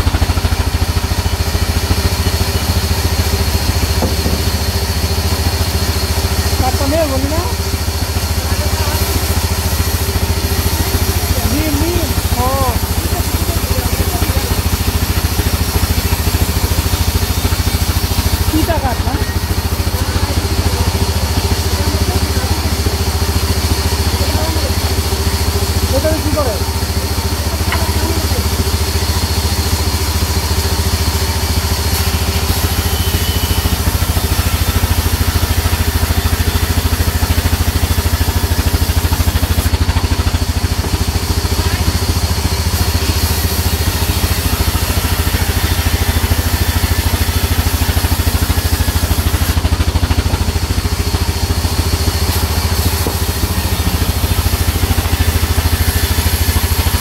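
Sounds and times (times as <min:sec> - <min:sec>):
saw cutting hiss: 0:00.0 - 0:57.0
sawmill drive drone: 0:00.0 - 0:57.0.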